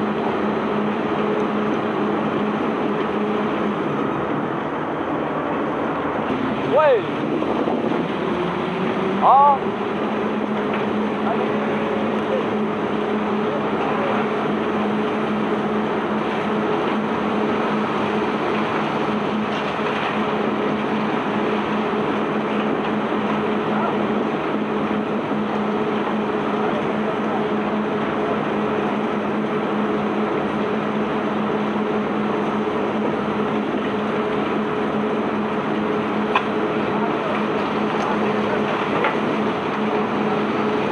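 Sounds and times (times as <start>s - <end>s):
mechanical rumble and rattle: 0.0s - 40.9s
ship machinery droning: 0.0s - 40.9s.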